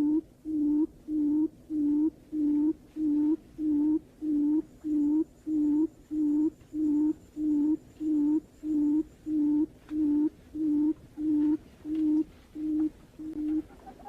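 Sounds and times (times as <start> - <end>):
buttonquail low hoots: 0.0 - 14.0.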